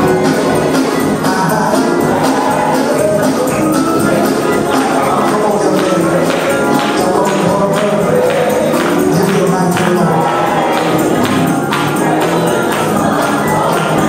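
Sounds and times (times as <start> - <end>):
gospel music: 0.0 - 14.0
tambourine beat: 0.0 - 14.0.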